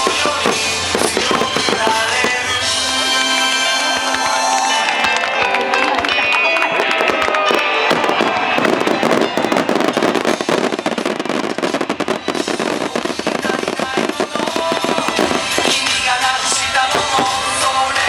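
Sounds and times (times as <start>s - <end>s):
fireworks crackling bursts: 0.0s - 18.0s
music from loudspeakers: 0.0s - 18.0s.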